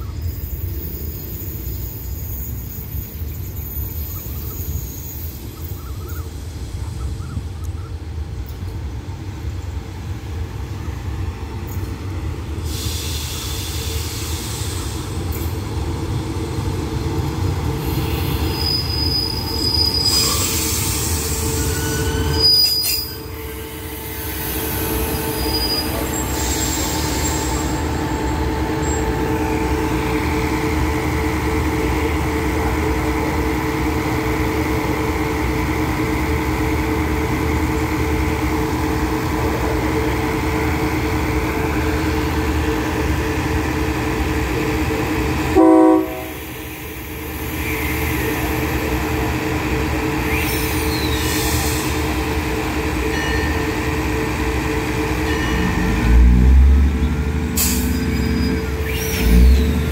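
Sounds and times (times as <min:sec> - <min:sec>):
train wheels and brakes squealing: 0:00.0 - 0:08.7, 0:10.6 - 0:59.9
train rolling noise: 0:00.0 - 0:59.9.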